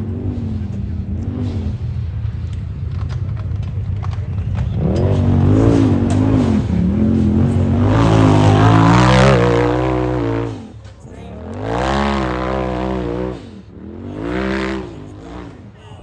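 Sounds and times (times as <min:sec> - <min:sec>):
race vehicle engine revving: 0:00.0 - 0:16.0.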